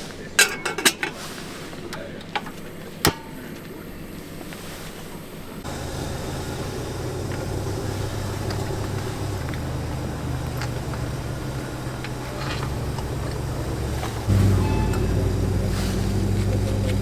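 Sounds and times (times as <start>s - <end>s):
car engine humming: 2.1s - 17.0s.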